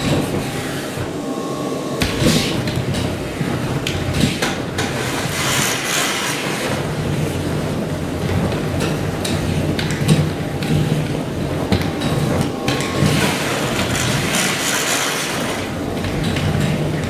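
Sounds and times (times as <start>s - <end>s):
industrial vacuum cleaner humming: 0.0s - 8.2s, 10.4s - 17.0s.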